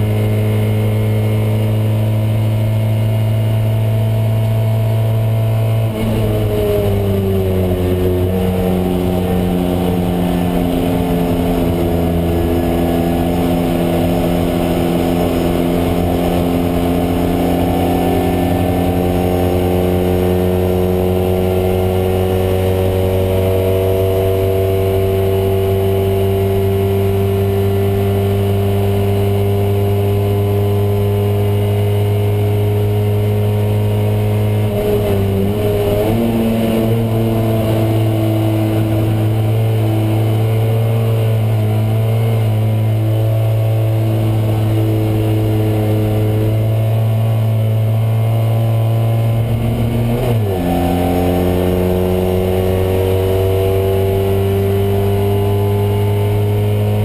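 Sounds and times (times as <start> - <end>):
car engine running at high revs: 0.0 - 57.0.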